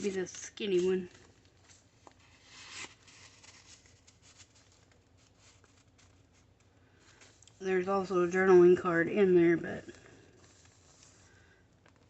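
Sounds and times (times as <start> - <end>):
paper rustling: 0.0 - 8.4, 9.8 - 12.0.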